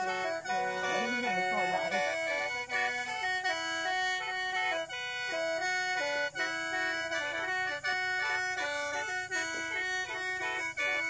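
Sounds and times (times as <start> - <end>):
mouth organ melody over drone: 0.0 - 11.0.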